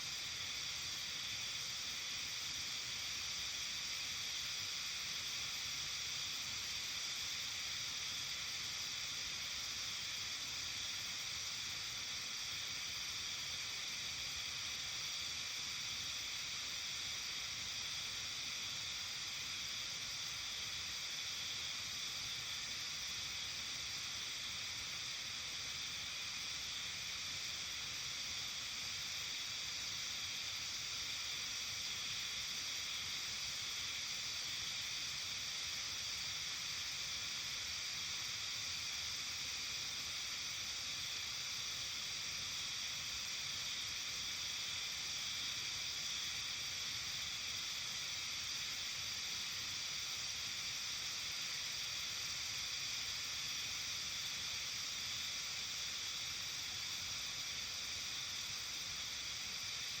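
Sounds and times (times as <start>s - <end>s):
high-pitched evening ambience hiss: 0.0s - 60.0s.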